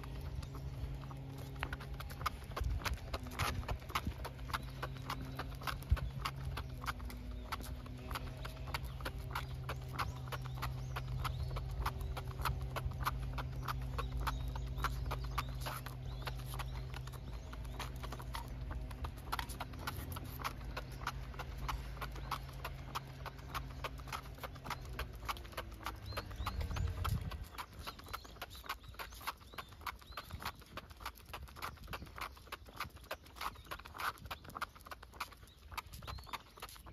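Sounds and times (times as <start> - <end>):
dog paws tapping on asphalt: 0.0 - 36.9.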